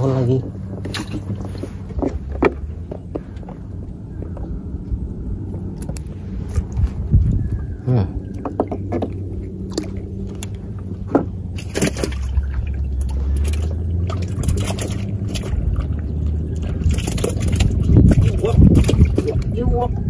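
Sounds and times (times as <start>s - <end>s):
low engine hum: 0.0s - 20.0s
water sloshing against boat: 0.0s - 20.0s.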